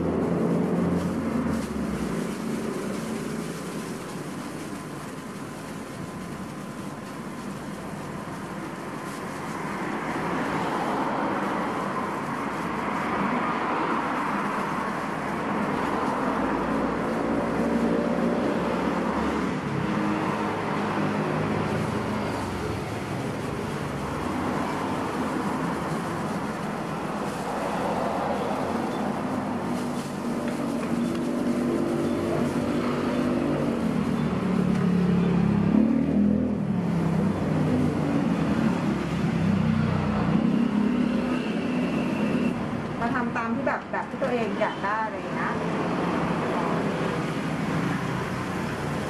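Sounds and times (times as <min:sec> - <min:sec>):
rush of passing vehicles: 0:00.0 - 0:49.0.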